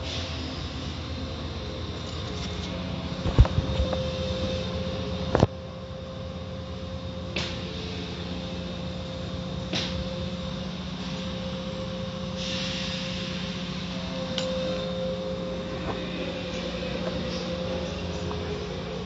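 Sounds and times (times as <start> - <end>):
car wash mechanical hum: 0.0 - 19.0.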